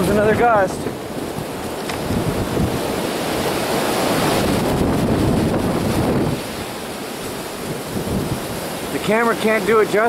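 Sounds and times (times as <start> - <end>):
wind gust buffeting microphone: 0.0 - 10.0.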